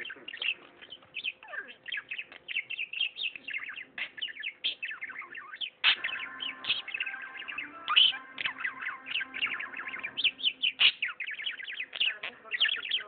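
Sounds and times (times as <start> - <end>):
budgerigar warbling and chattering: 0.0 - 13.0.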